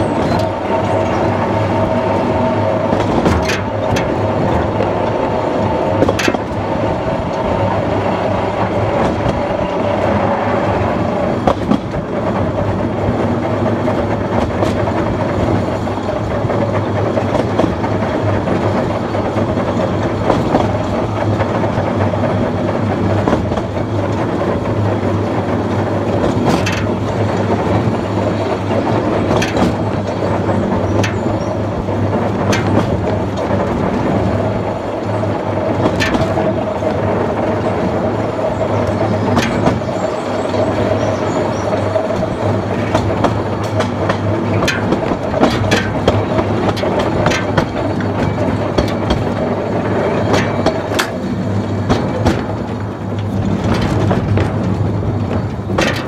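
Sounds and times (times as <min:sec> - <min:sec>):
locomotive low hum: 0:00.0 - 0:56.0
wheels clicking on rails: 0:00.0 - 0:56.0.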